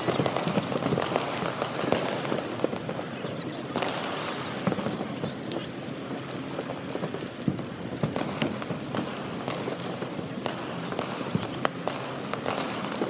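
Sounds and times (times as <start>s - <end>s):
distant fireworks bursting: 0.0s - 13.0s
steady background noise: 0.0s - 13.0s.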